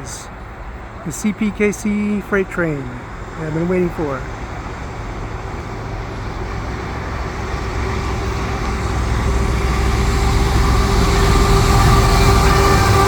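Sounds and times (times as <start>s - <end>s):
diesel locomotive rumble: 0.0s - 13.0s
high whine: 0.0s - 13.0s.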